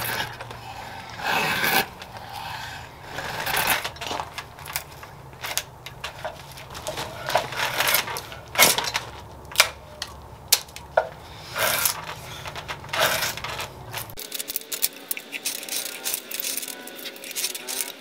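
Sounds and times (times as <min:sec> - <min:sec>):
metal scraping: 0:00.0 - 0:18.0.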